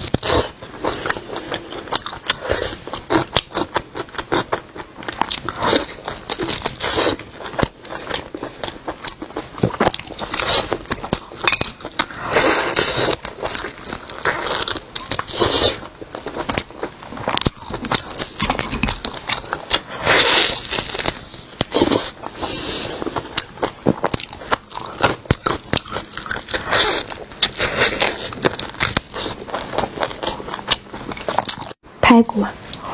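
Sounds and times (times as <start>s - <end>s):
chewing crusted meat crunching: 0.0s - 31.8s.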